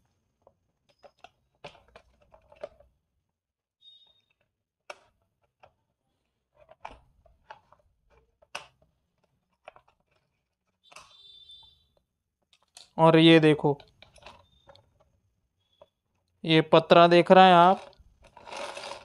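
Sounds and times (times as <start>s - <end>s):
tool clicking and scraping plastic: 0.4s - 3.0s, 4.0s - 13.0s, 13.8s - 16.4s, 17.5s - 19.0s.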